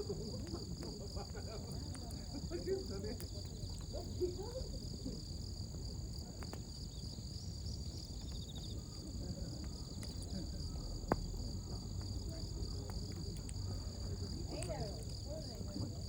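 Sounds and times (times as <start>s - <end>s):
campfire rumble: 0.0s - 16.0s
crickets chirring: 0.0s - 16.0s
fire crackling and popping: 0.0s - 16.0s.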